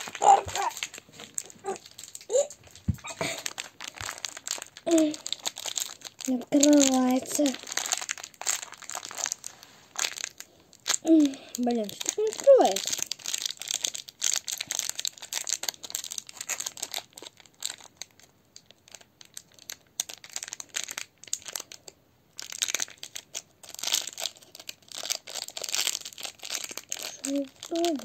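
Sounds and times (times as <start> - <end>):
wrapper crinkling and rustling: 0.0 - 28.0.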